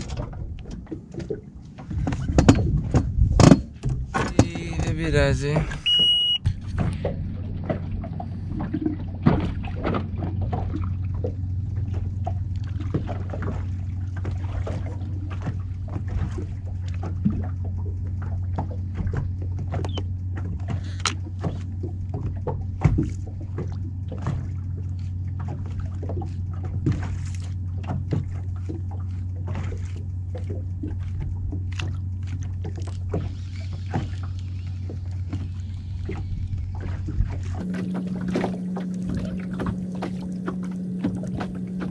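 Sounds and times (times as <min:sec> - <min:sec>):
boat motor humming: 0:00.0 - 0:41.9.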